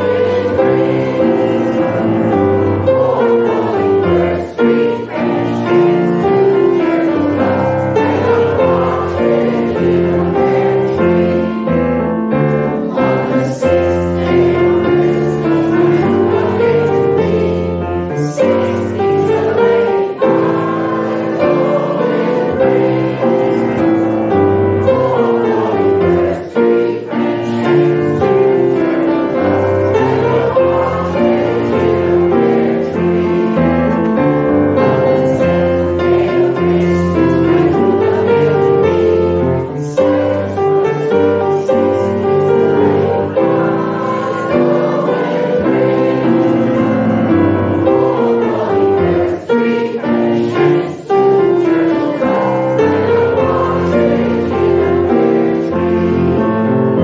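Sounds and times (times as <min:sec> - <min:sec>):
grand piano: 0:00.0 - 0:57.0
group singing a carol: 0:00.0 - 0:57.0.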